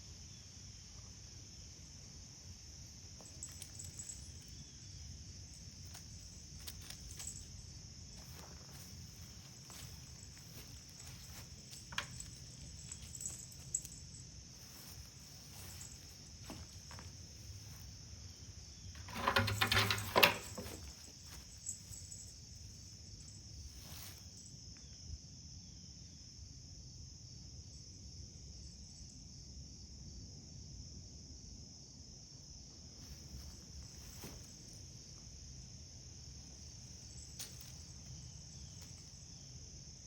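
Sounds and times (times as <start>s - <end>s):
insects trilling: 0.0s - 30.8s, 32.2s - 40.0s.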